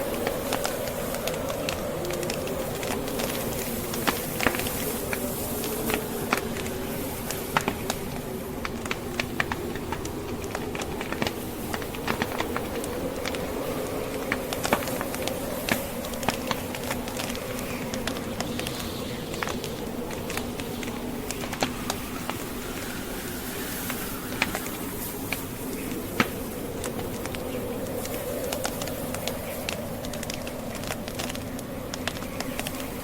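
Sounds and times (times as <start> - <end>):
blizzard wind: 0.0 - 33.0
wood fire crackling: 0.0 - 33.0.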